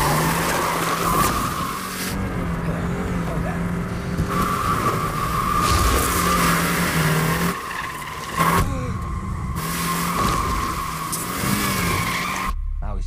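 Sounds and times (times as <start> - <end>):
car tyres squealing: 0.0 - 12.6
car engine running: 0.0 - 13.0.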